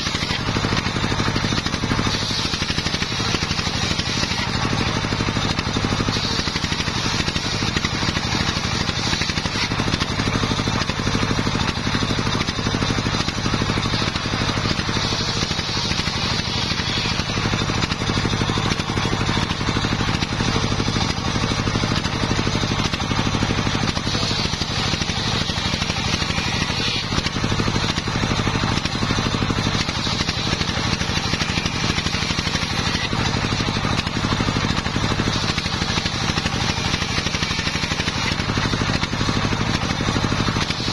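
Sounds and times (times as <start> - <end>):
engine hum: 0.0 - 40.9
saw blade ripping wood: 0.0 - 40.9.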